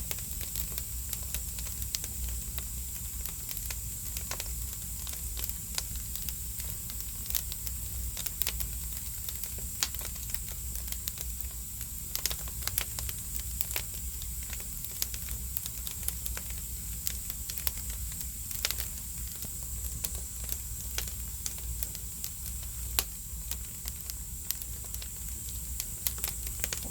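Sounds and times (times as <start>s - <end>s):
firewood burning with crackles: 0.0s - 26.9s
low rumble of firebox: 0.0s - 26.9s.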